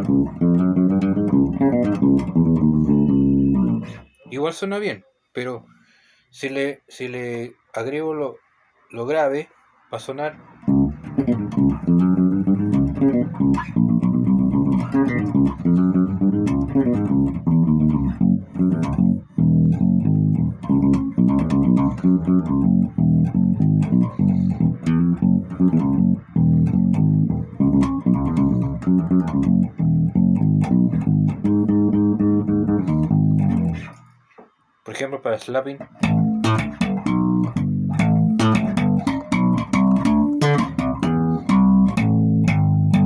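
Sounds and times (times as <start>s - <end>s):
electric bass guitar plucked: 0.0s - 4.2s, 10.6s - 34.1s, 35.8s - 43.0s.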